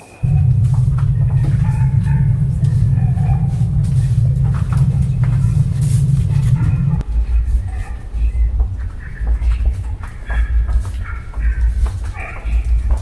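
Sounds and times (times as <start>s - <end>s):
faint scattered sounds: 0.0s - 13.0s
deep pulsing rumble: 0.2s - 13.0s
deep rumbling drone: 0.2s - 13.0s.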